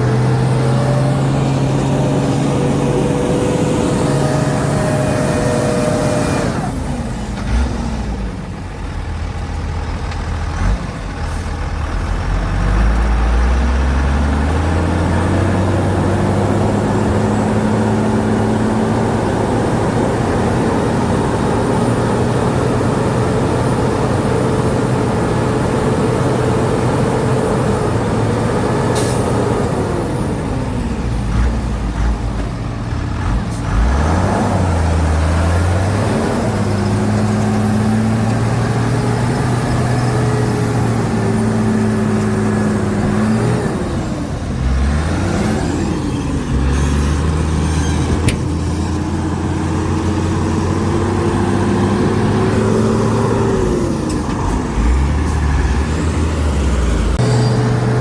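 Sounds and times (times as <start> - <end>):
heavy diesel engine revving: 0.0 - 58.0.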